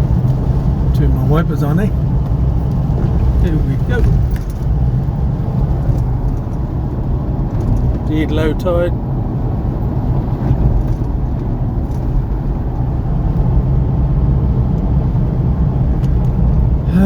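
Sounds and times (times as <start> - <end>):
car driving on wet road: 0.0 - 17.0.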